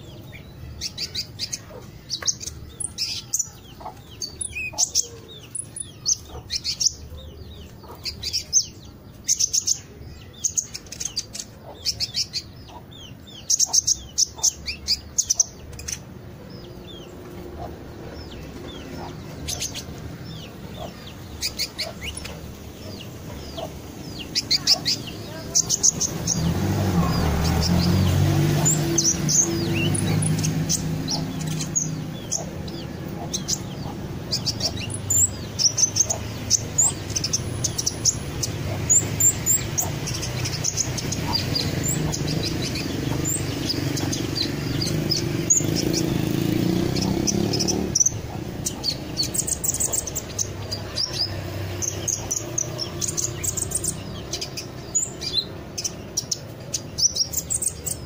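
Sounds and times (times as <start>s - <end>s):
songbird chirping: 0.0s - 58.0s.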